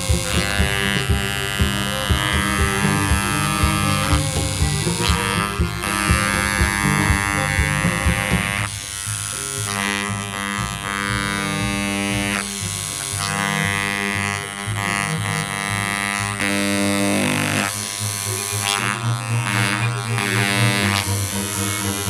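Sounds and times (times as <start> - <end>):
background music: 0.0 - 22.0
electric engraver buzzing: 0.0 - 22.0.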